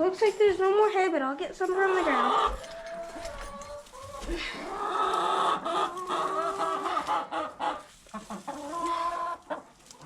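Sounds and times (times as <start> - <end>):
chickens clucking: 1.5 - 10.0.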